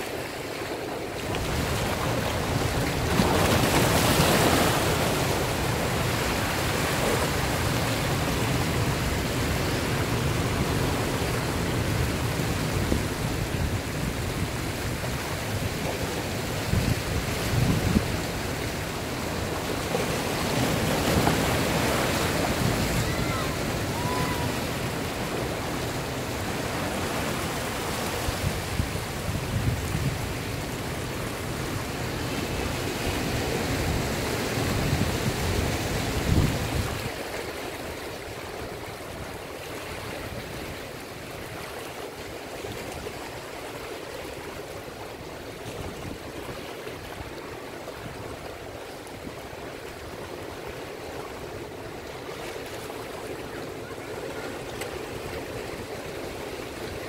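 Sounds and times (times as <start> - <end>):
surf washing through rocks: 0.0 - 57.0.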